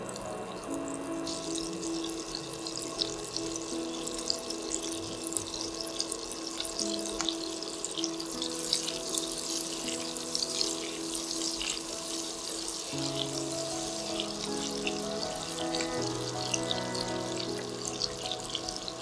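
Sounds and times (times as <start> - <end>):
background music: 0.0 - 19.0
food sizzling in a skillet: 0.0 - 19.0.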